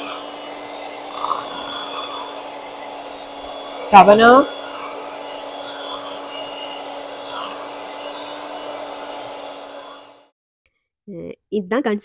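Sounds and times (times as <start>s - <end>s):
electric hand mixer humming: 0.0s - 10.4s.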